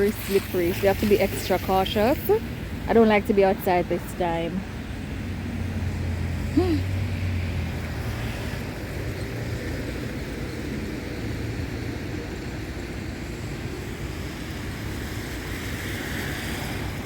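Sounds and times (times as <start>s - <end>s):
cars passing on wet road: 0.0s - 17.0s.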